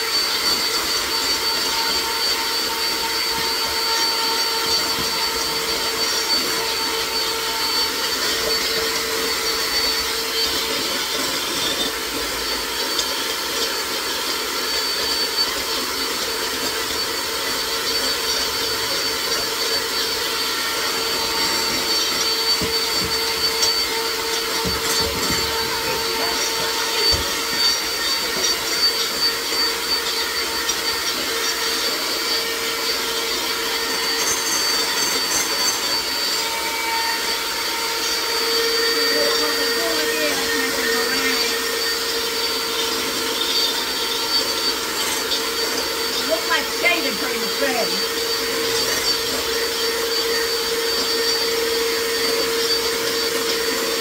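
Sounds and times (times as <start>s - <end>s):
electric hand mixer whine: 0.0s - 54.0s.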